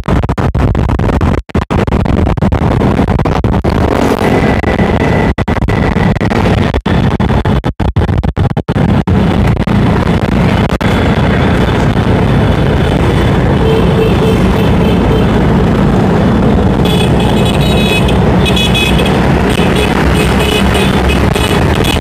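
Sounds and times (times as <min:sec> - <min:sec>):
wind on microphone: 0:00.0 - 0:22.0
motorcycle engines running: 0:01.6 - 0:22.0.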